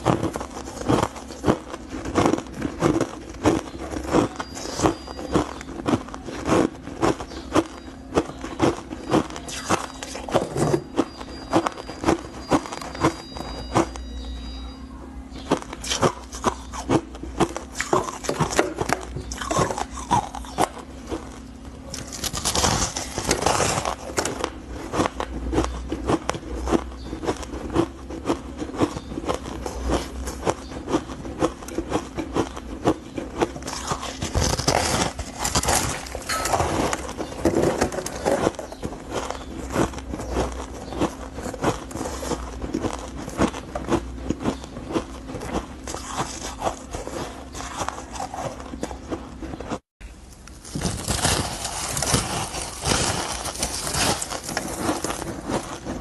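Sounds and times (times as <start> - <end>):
ice crunching as chewed: 0.0 - 56.0.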